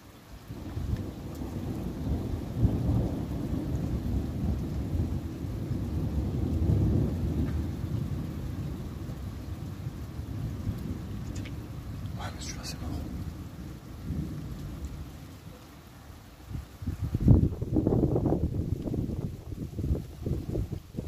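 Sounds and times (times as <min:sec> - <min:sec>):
deep rolling thunder: 0:00.6 - 0:15.3, 0:16.5 - 0:21.0.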